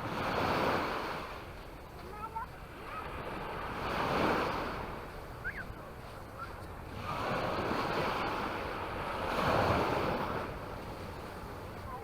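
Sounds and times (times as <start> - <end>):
small sea waves breaking: 0.0 - 12.0.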